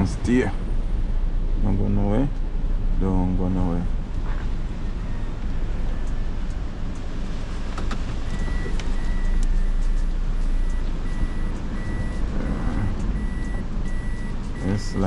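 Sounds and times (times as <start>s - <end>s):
continuous low rumble: 0.0s - 15.0s.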